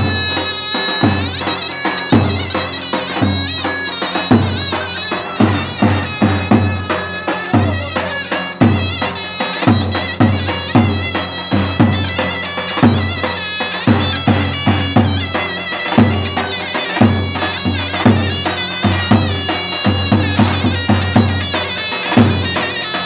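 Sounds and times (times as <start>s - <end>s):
nasal reed pipe melody: 0.0s - 23.0s.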